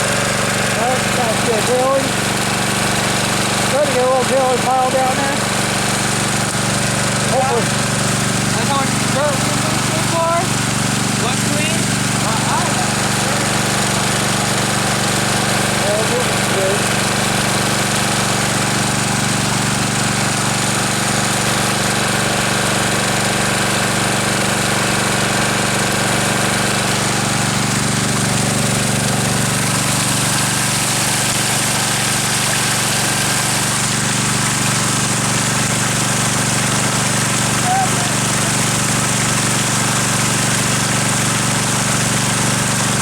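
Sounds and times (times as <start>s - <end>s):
small engine running: 0.0s - 43.0s.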